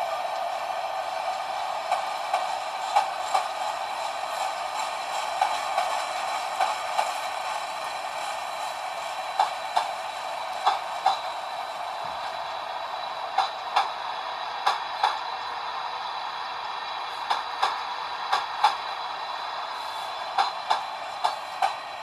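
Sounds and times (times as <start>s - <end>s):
train wheels rumbling on rail: 0.0s - 22.0s
wheels clicking over rail joints: 0.0s - 22.0s.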